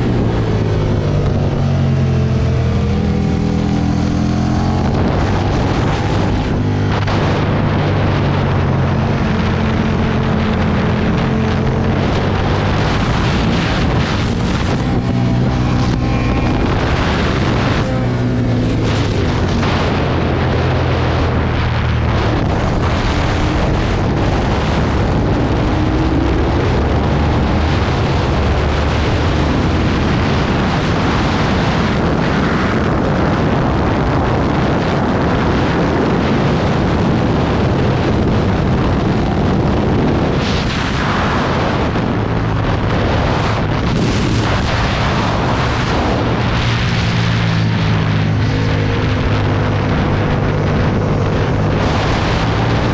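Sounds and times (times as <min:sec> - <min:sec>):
motorcycle engine revving: 0:00.0 - 0:52.9
wind rushing over microphone: 0:00.0 - 0:52.9.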